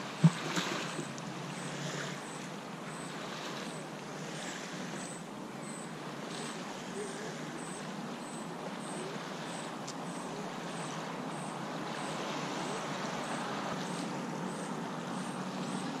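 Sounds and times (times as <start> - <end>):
outdoor ambient rush: 0.0 - 16.0.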